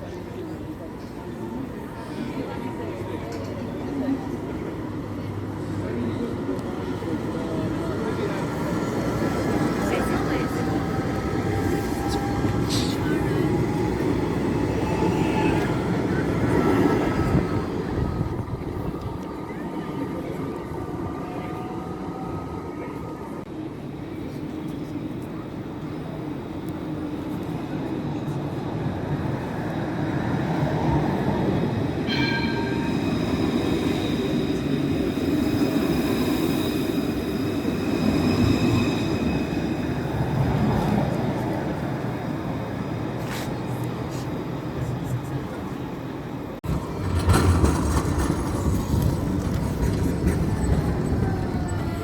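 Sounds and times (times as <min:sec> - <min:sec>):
tram passing: 0:00.0 - 0:52.0.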